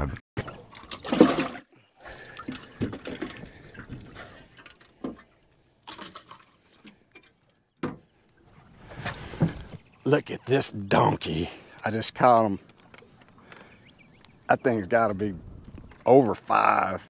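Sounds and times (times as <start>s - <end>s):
water sloshing and trickling: 0.4s - 14.5s.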